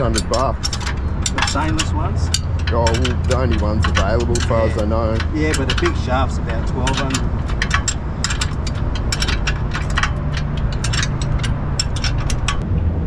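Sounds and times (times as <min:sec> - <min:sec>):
rapid metallic clicks of hand tool: 0:00.0 - 0:12.6
low steady hum: 0:00.0 - 0:13.0.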